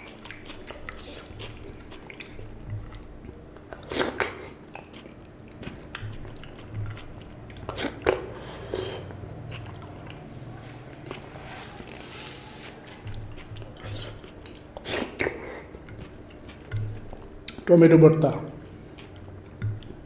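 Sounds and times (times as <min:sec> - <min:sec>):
man chewing: 0:00.0 - 0:17.7, 0:18.6 - 0:20.0
wet squelches of eating by hand: 0:00.0 - 0:20.0.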